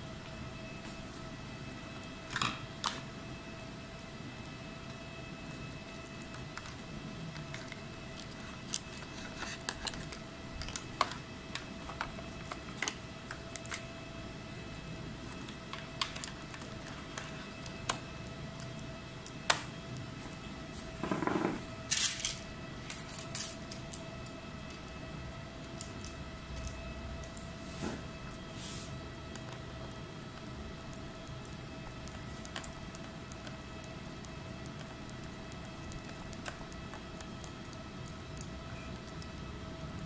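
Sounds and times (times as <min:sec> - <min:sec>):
high electrical whine: 0:00.0 - 0:40.0.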